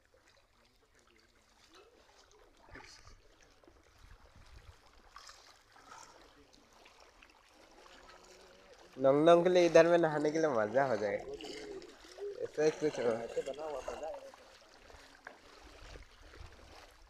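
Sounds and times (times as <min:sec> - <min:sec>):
soft water splashes: 0:00.0 - 0:17.0
water trickling: 0:00.0 - 0:17.0.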